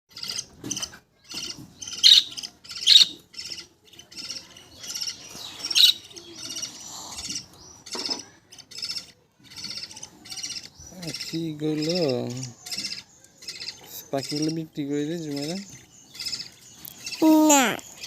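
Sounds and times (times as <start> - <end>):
budgerigars chirping and chattering: 0.1 - 18.0.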